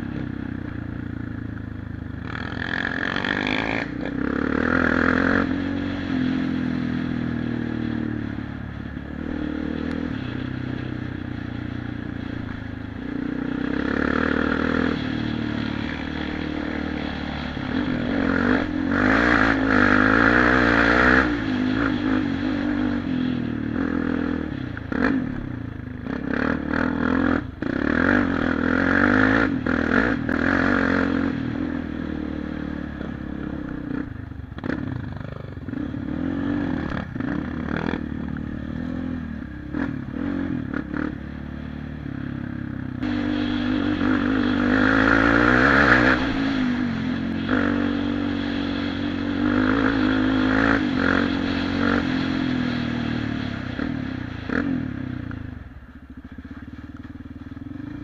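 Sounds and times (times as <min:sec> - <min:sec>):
quad bike engine revving: 0:02.2 - 0:58.0.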